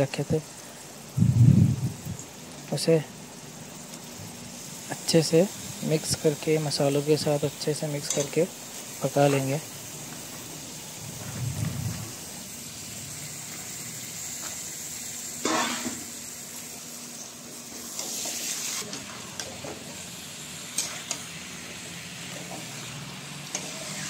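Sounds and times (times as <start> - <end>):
chicken sizzling in pan: 0.0 - 24.0.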